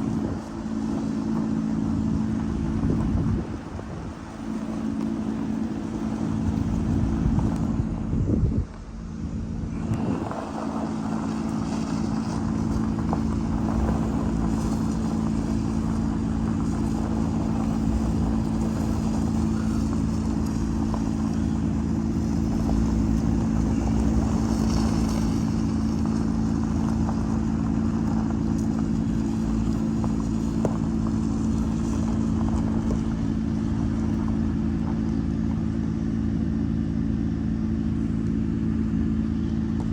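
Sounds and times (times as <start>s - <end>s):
vehicle engine running steadily: 0.0s - 39.9s.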